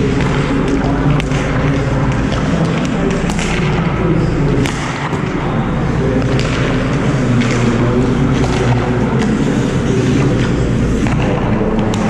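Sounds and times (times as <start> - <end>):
hockey sticks and pucks clacking: 0.0 - 12.0
ice rink rumble: 0.0 - 12.0.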